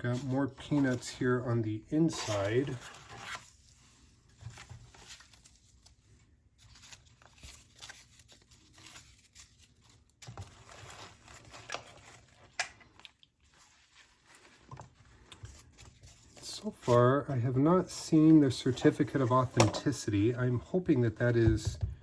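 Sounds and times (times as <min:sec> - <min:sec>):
packing peanuts rustling: 0:02.1 - 0:20.8.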